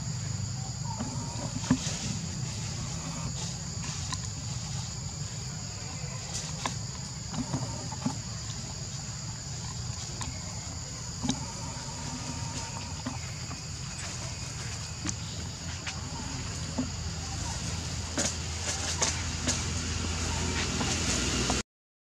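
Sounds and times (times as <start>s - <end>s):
insect chorus drone: 0.0s - 21.6s
low steady rumble: 0.0s - 21.6s.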